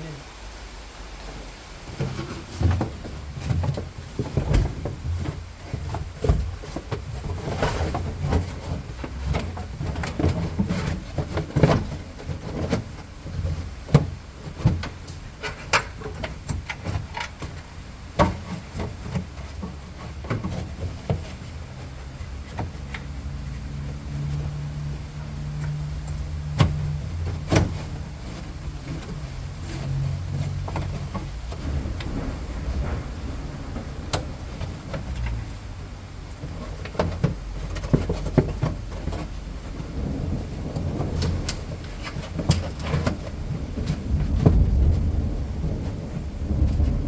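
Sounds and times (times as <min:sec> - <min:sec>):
carpet panel rustling: 0:02.0 - 0:45.9.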